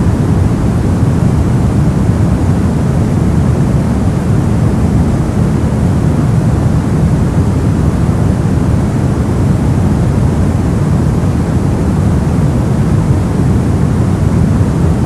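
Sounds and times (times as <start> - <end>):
deep rushing brown noise: 0.0 - 15.0.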